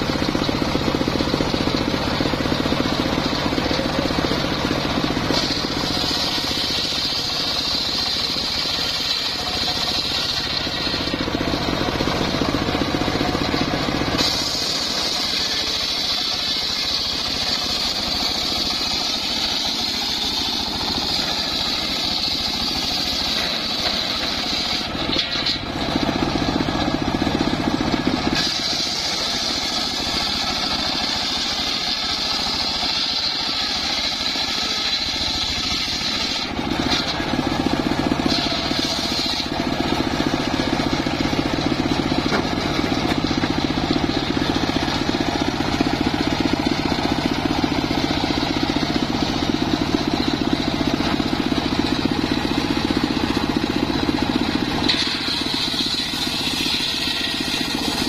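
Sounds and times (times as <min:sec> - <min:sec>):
circular sawmill whining: 0:00.0 - 0:58.0
saw blade cutting timber: 0:00.0 - 0:58.0.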